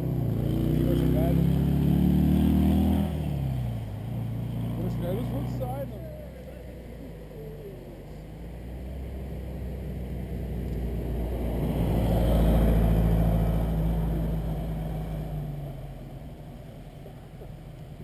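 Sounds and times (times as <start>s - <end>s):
car engine passing by: 0.0s - 18.0s.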